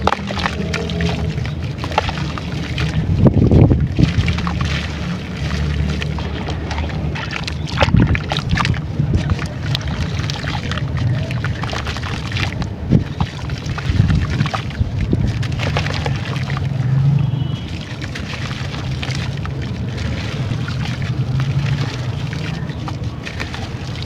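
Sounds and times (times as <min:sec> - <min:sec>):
wet trickling: 0:00.0 - 0:24.0.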